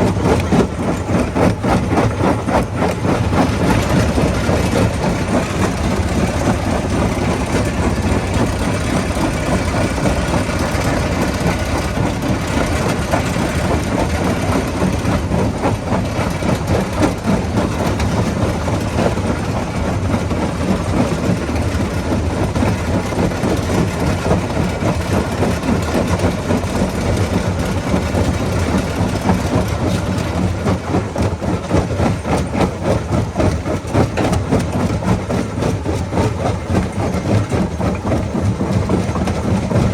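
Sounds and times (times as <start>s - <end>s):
heavy engine hum: 0.0s - 39.9s.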